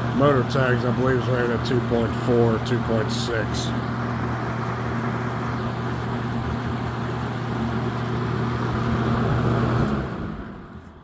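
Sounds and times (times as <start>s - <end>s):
box fan running on high: 0.0s - 11.0s.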